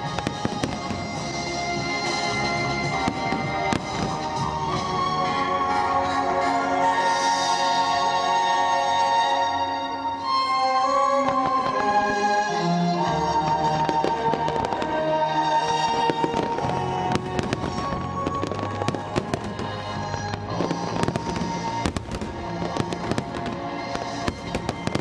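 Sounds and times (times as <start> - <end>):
orchestral music: 0.0 - 25.0.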